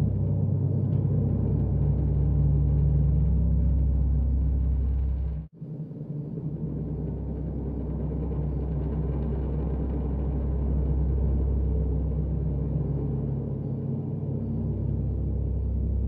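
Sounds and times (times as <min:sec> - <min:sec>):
deep rumbling drone: 0:00.0 - 0:16.0
low hum: 0:00.0 - 0:16.0.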